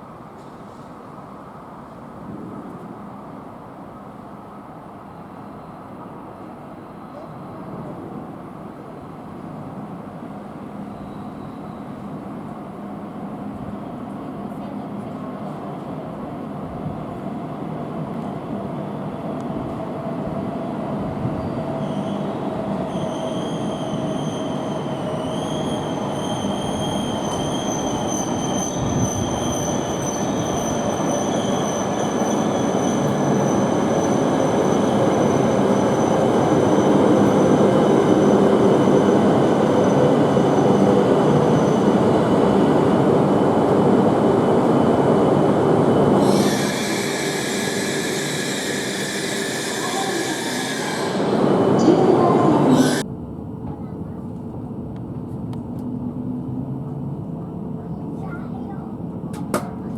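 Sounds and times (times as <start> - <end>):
train running noise: 10.4 - 59.9.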